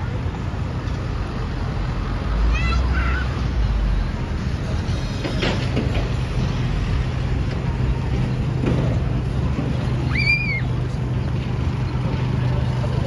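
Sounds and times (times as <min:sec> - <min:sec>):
low engine hum: 0:00.0 - 0:13.0
street noise: 0:00.0 - 0:13.0.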